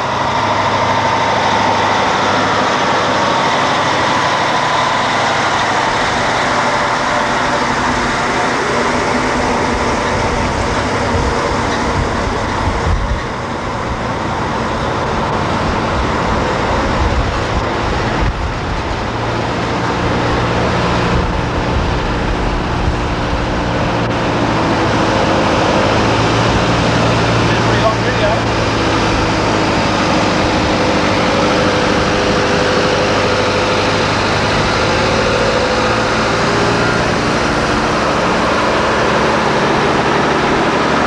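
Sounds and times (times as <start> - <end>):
heavy traffic rumble: 0.0 - 41.0
low engine drone: 0.0 - 41.0.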